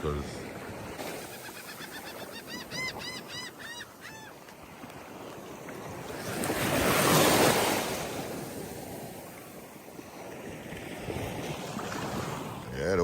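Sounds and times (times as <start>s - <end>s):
surf washing up a sandy beach: 0.0s - 2.4s, 4.4s - 13.0s.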